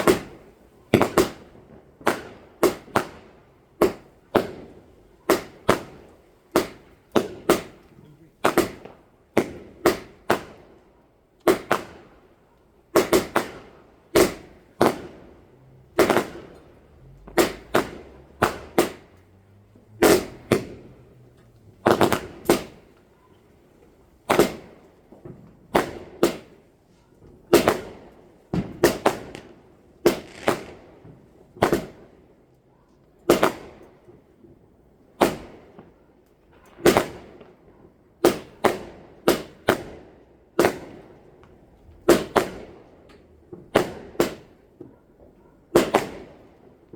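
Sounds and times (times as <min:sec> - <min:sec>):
fireworks banging: 0:00.0 - 0:32.4, 0:33.3 - 0:35.9, 0:36.5 - 0:46.9.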